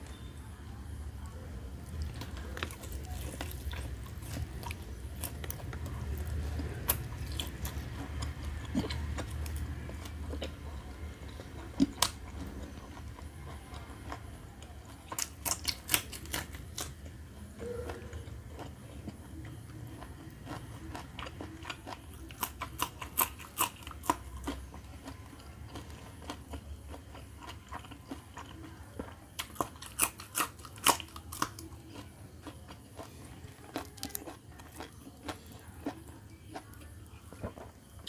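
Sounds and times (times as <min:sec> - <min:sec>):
steady low hum: 0:00.0 - 0:38.0
chewing and biting meat: 0:01.9 - 0:17.0, 0:17.7 - 0:38.0.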